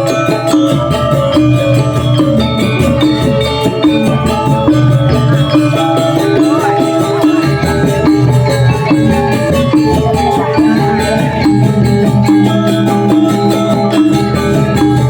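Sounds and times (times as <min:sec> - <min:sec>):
gamelan metallophones and gongs: 0:00.0 - 0:15.0.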